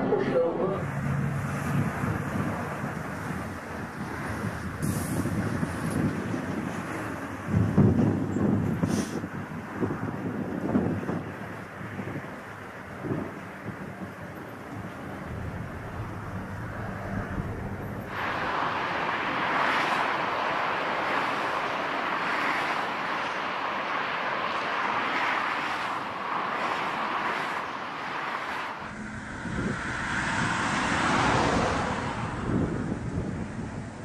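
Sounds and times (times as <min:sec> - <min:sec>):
airliner engines rushing: 0:00.0 - 0:34.0
wind buffeting microphone: 0:00.8 - 0:34.0.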